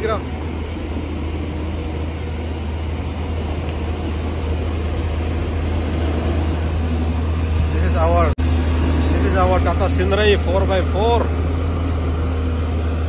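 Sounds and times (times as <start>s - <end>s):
diesel engine low drone: 0.0s - 13.0s.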